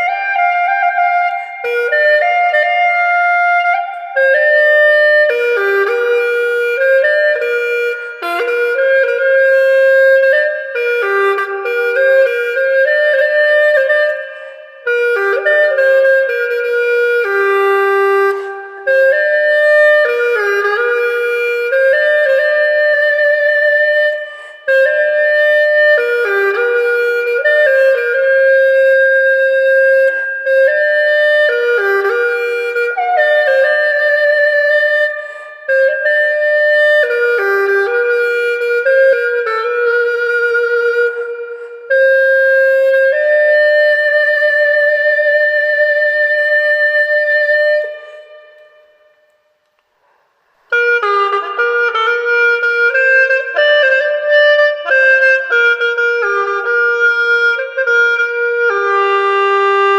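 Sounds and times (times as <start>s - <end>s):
gourd flute melody: 0.0s - 49.6s, 50.6s - 59.9s.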